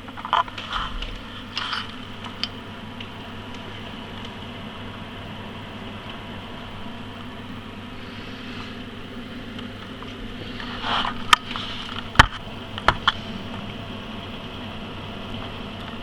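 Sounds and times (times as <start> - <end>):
computer fans humming: 0.0 - 16.0.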